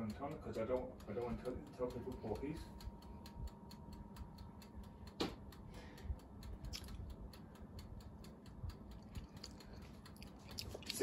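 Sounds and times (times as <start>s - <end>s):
mechanical timer ticking: 0.0s - 11.0s.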